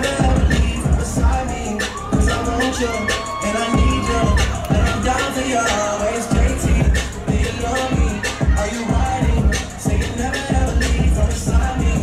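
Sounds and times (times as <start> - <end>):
dance music with heavy bass: 0.0 - 12.0.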